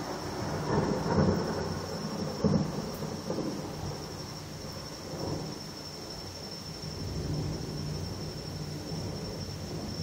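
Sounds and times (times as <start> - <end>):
thunder rumbling: 0.0 - 10.0.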